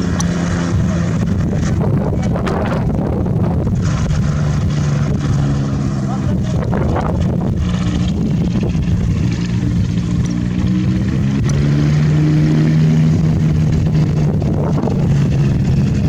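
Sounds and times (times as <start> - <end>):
ultralight aircraft engine and propeller: 0.0 - 16.0.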